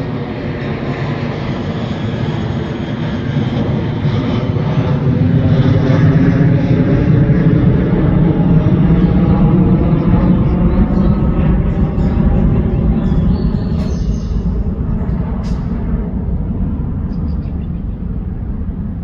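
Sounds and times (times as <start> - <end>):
airplane engines rumbling: 0.0 - 19.0.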